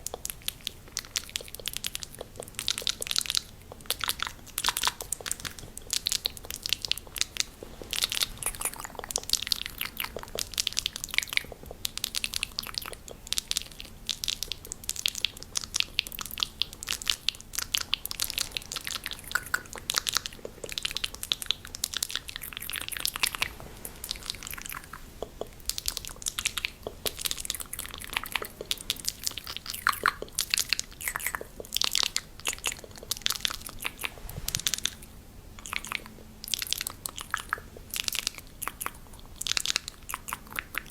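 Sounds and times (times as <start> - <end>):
rapid mouth clicks: 0.0 - 40.9.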